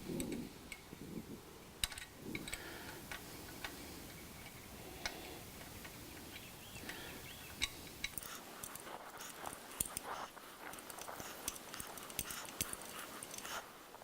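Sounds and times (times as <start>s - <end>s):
metal clicks taps and scrapes: 1.8s - 13.7s.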